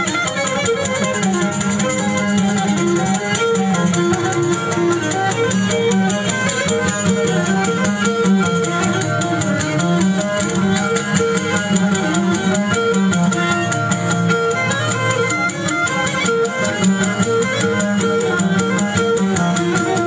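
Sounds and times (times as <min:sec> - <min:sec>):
string instrument dance music: 0:00.0 - 0:20.0.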